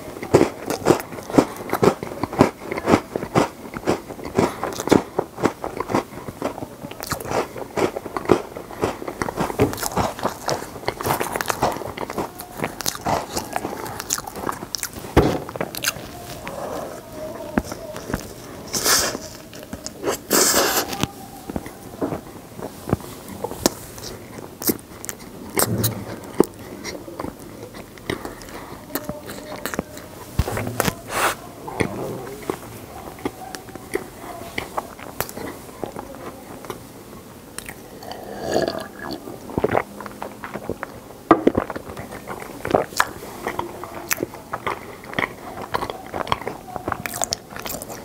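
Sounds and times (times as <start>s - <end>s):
person chewing cake: 0.0s - 48.0s.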